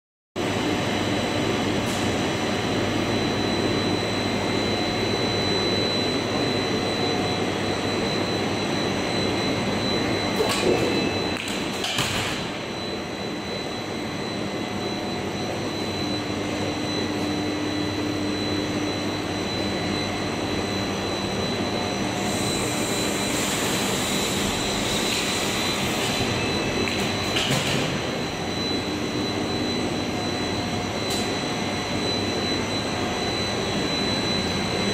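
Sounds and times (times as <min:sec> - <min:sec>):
machine drone with high whine: 0:00.4 - 0:34.9.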